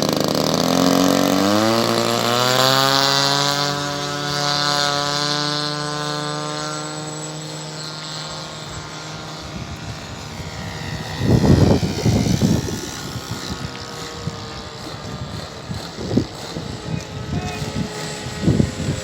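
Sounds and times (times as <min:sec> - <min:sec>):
model aircraft engine flying past: 0:00.0 - 0:19.0.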